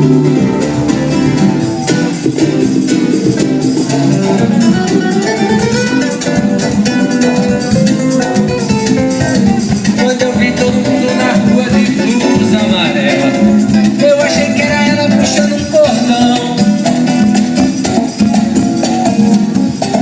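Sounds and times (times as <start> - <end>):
live band playing: 0.0 - 20.0
strummed guitar: 0.0 - 20.0.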